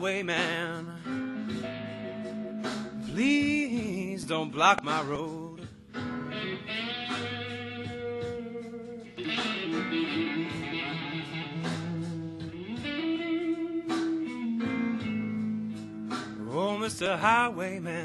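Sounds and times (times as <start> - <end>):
electric guitar blues fill: 0.0 - 18.0.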